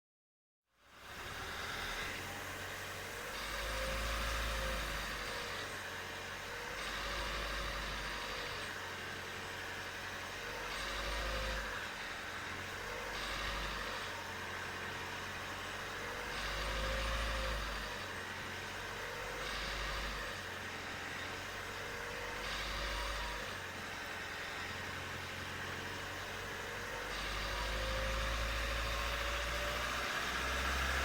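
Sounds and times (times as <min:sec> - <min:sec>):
diesel engine revving: 0:00.9 - 0:31.0.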